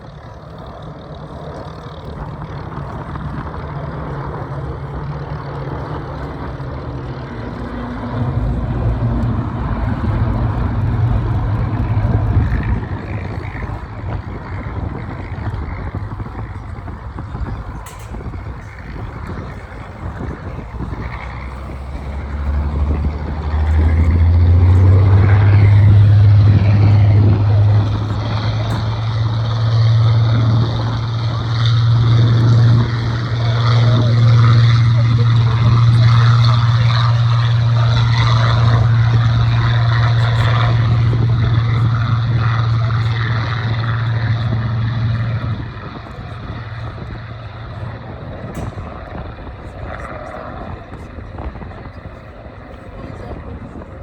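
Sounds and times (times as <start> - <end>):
aircraft engine droning: 0.0 - 54.0.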